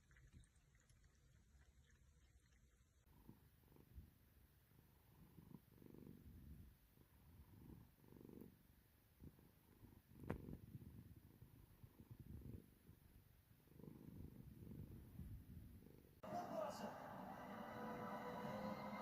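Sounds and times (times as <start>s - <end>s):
cat purring: 0.0s - 16.2s.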